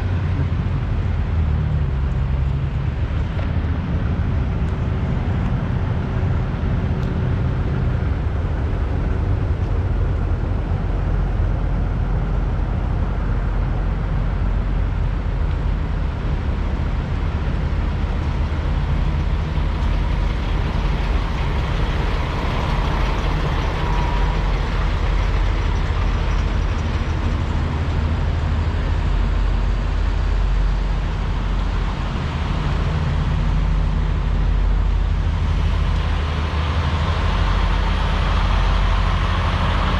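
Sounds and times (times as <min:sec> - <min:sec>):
diesel truck engines idling: 0:00.0 - 0:39.9.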